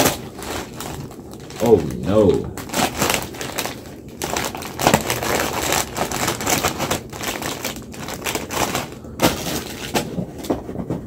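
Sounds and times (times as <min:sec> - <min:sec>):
chips crunching: 0:00.0 - 0:10.2
plastic bag crinkling: 0:00.0 - 0:10.6.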